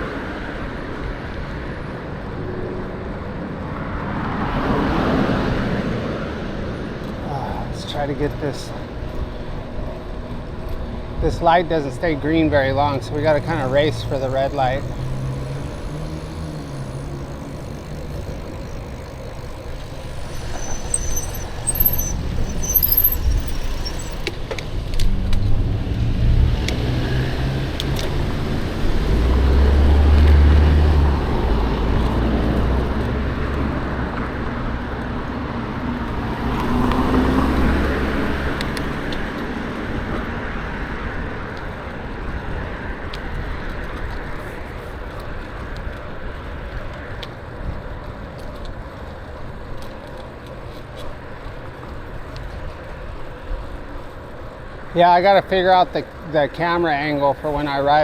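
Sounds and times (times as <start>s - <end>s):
cars passing close by: 0.0s - 58.0s
traffic hum: 0.0s - 58.0s.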